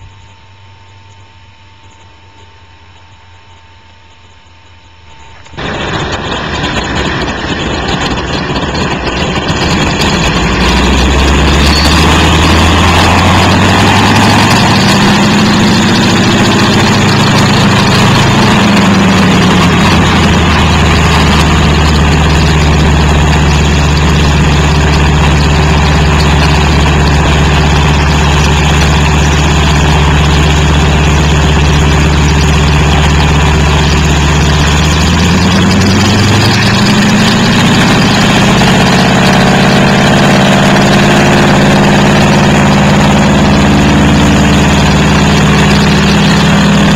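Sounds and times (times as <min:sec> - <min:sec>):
propeller plane engine running: 0:00.0 - 0:46.9.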